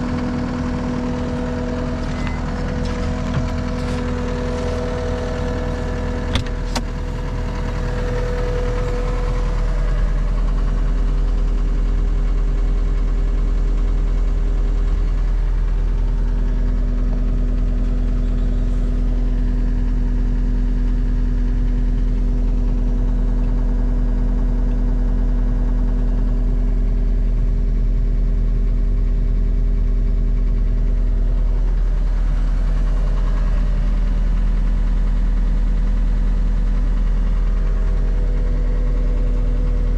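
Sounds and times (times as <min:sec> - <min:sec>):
diesel engine humming: 0:00.0 - 0:26.8, 0:30.0 - 0:39.9.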